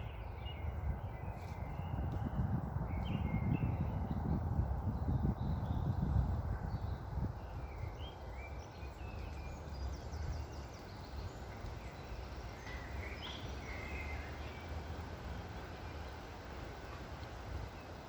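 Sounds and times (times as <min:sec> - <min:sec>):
low rush of wind: 0:00.0 - 0:18.0
small birds chirping: 0:00.0 - 0:18.0.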